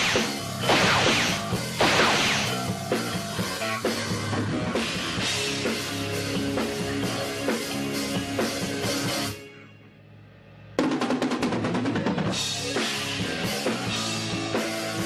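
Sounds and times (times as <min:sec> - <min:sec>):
rock music with drums and guitar: 0:00.0 - 0:09.6, 0:10.6 - 0:15.0.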